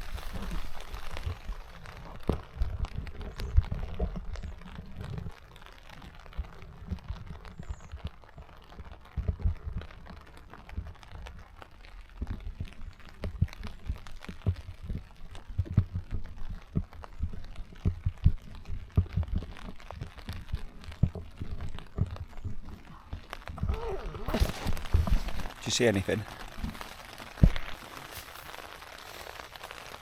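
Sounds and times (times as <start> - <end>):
rain drops on tent: 0.0 - 30.0.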